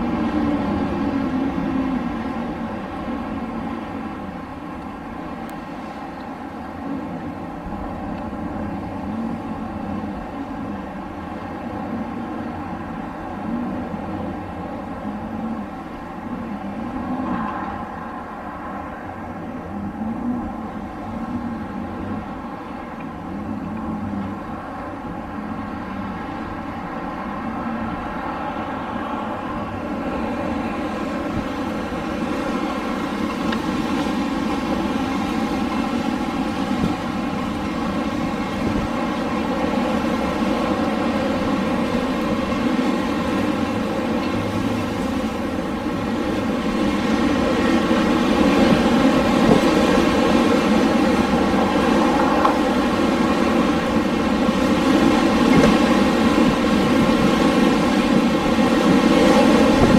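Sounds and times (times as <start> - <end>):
rushing wind with hum: 0.0 - 59.9.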